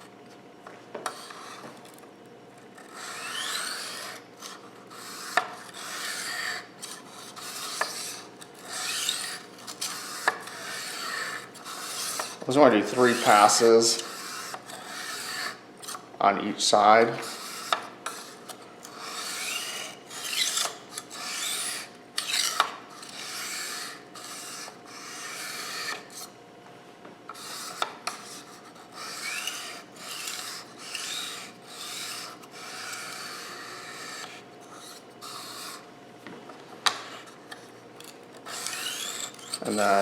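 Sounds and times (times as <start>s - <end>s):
knife scraping on whetstone: 1.0s - 1.8s, 2.8s - 16.0s, 17.2s - 26.4s, 27.3s - 35.9s, 36.9s - 40.0s.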